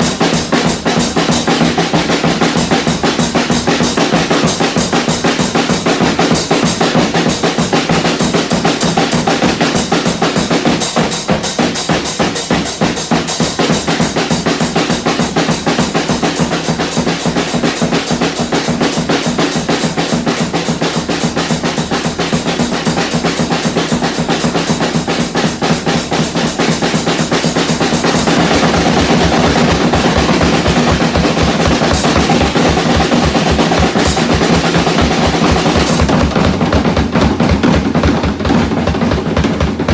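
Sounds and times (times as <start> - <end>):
drum kit playing fast: 0.0 - 39.9
heavy bass drum beat: 0.0 - 39.9.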